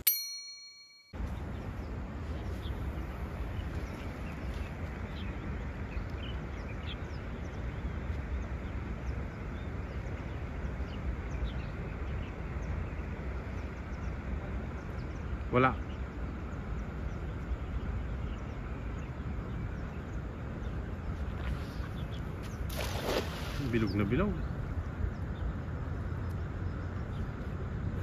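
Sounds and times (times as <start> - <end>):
outdoor rumble and hiss: 1.2 - 28.0.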